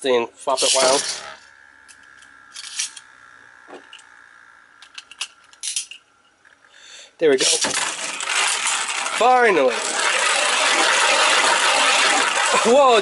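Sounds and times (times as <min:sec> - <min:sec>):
spinning top whirring: 0:00.4 - 0:06.2, 0:07.4 - 0:13.0.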